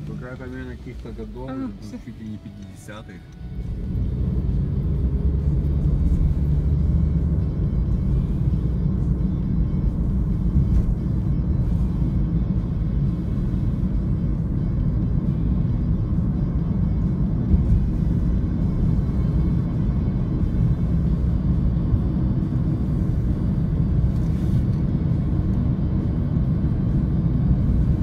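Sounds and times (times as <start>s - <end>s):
car road rumble: 0.0s - 28.0s
music playing: 0.0s - 28.0s.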